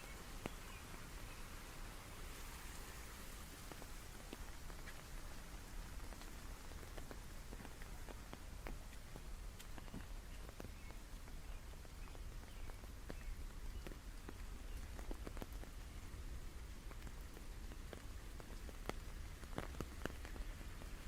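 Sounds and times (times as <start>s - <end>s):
rain hiss: 0.0s - 21.0s
raindrop ticks: 2.3s - 21.0s.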